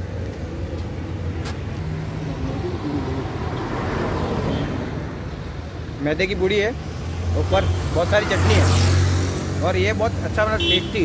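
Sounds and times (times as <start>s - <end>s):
road traffic engine hum: 0.0s - 11.0s
vehicle passing by: 0.5s - 5.7s, 6.7s - 10.3s.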